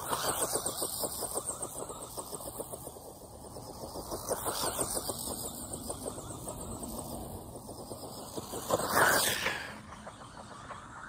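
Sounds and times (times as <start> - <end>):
toy car motor whining: 0.0 - 9.9
fast rattle on grass: 0.0 - 11.0.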